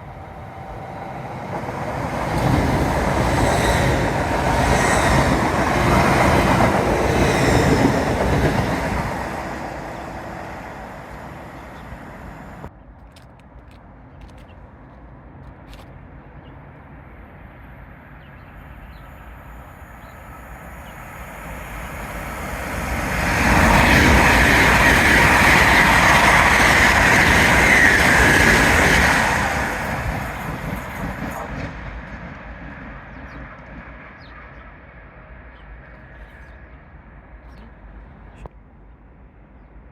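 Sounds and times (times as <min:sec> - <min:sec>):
train passing at speed: 0:00.0 - 0:12.7, 0:16.6 - 0:39.9.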